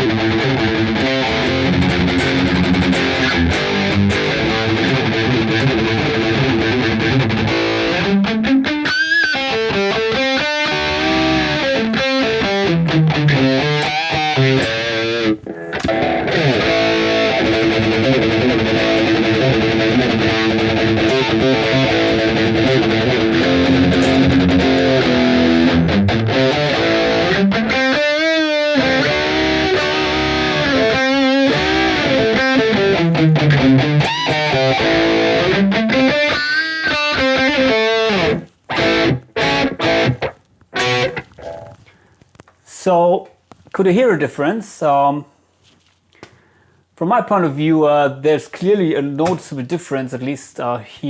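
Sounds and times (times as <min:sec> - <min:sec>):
distorted electric guitar: 0:00.0 - 0:42.6.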